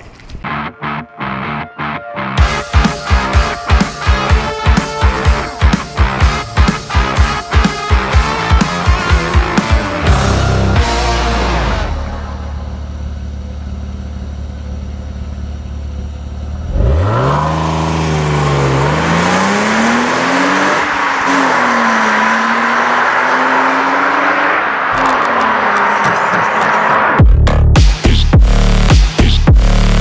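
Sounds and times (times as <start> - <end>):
car engine revving: 0.5 - 30.0.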